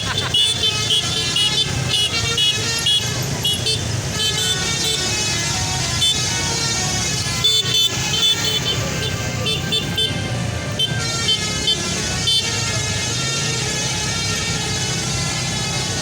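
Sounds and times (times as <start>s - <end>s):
bus musical horn toots: 0.0s - 16.0s
engine and traffic rumble: 0.0s - 16.0s.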